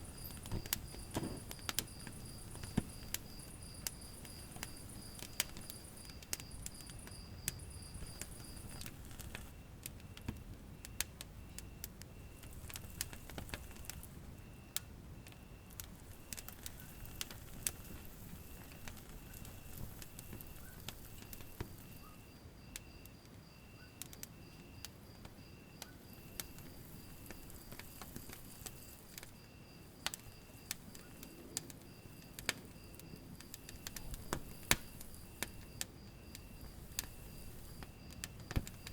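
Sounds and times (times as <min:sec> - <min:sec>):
faint high chirp: 0:00.0 - 0:38.9
fire crackling and popping: 0:00.0 - 0:38.9.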